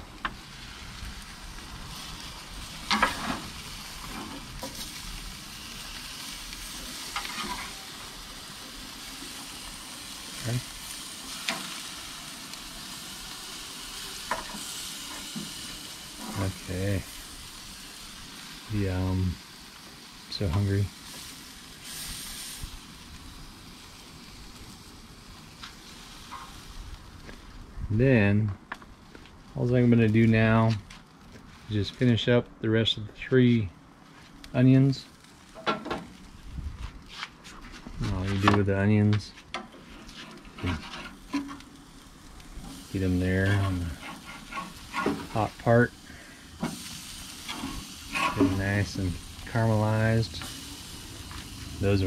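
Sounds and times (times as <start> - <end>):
food sizzling on a grill: 0.0 - 27.9, 34.0 - 52.0
light crackles: 0.0 - 52.0.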